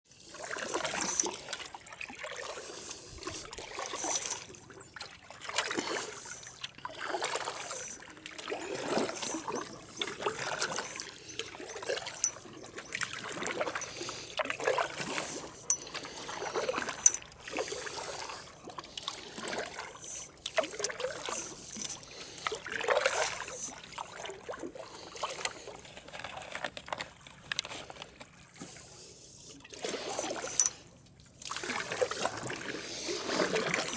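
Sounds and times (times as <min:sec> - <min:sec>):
oars swishing through water: 0:00.0 - 0:33.9
water dripping from oar blades: 0:00.4 - 0:28.0.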